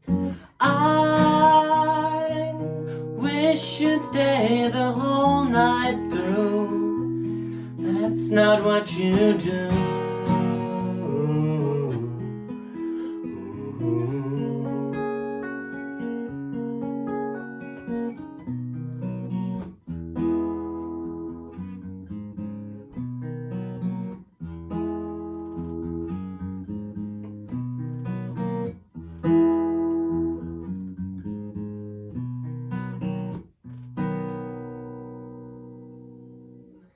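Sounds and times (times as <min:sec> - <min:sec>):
acoustic guitar strumming chords: 0:00.0 - 0:36.9.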